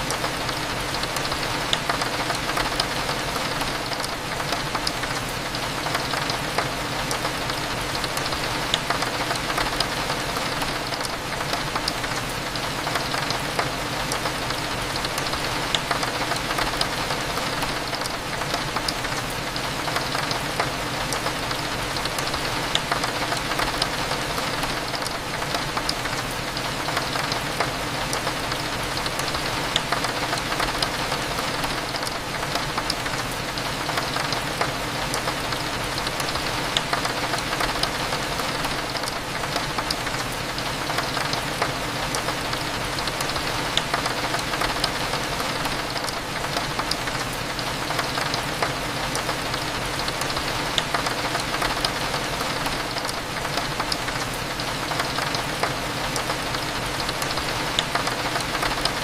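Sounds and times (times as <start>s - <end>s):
rain ticking on a window: 0.0s - 59.0s.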